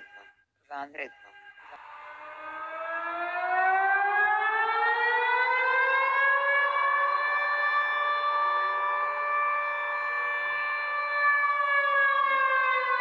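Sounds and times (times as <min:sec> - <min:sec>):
civil defence siren wailing: 0:01.4 - 0:13.0.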